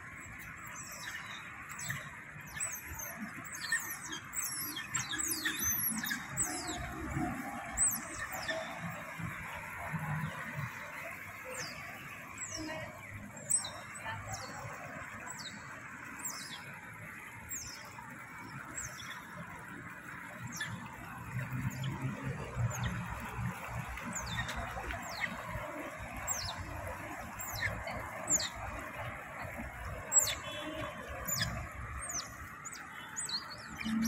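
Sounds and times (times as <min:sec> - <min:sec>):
water rushing and churning: 0:00.0 - 0:34.0.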